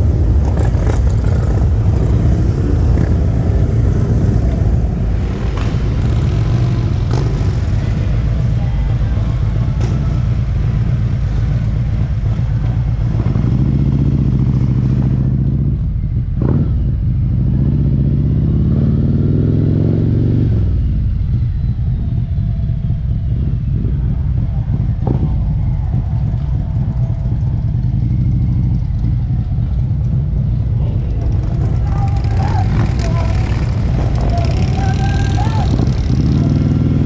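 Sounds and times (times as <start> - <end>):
motorcycle engine accelerating: 0.0 - 8.0, 9.4 - 22.3, 23.2 - 37.0.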